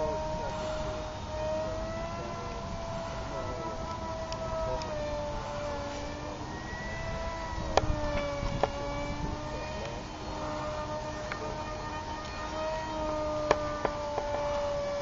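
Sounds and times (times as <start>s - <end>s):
electric propeller motor whine: 0.0s - 15.0s.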